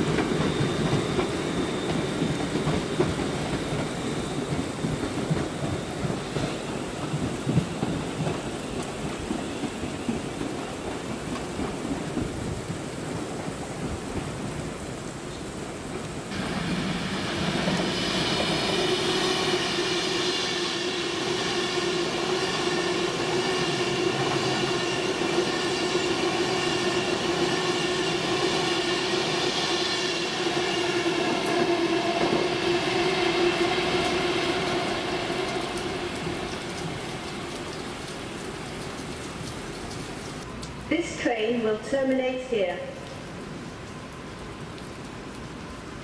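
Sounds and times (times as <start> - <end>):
train whining on tracks: 0.0 - 46.0.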